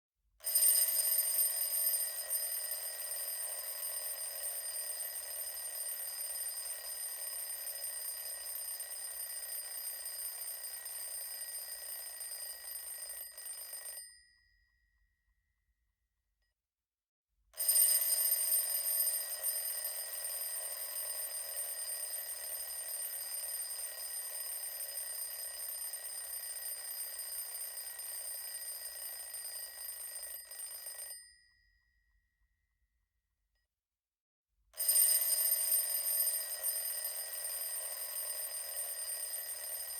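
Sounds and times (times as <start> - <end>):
alarm clock bell ringing: 0.4 - 14.6, 17.6 - 31.8, 34.8 - 39.9.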